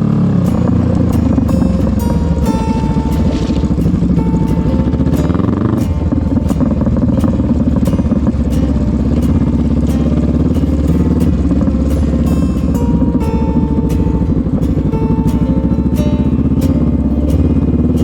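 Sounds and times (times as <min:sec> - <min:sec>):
background music: 0:00.0 - 0:18.0
motorcycle engine running: 0:00.0 - 0:18.0.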